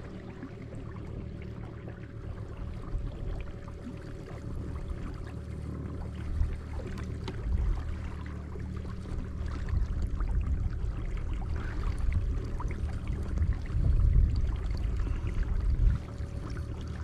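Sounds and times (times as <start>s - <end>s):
faint hum: 0.0s - 17.0s
low rumble: 0.0s - 17.0s
water lapping against a hull: 0.0s - 17.0s.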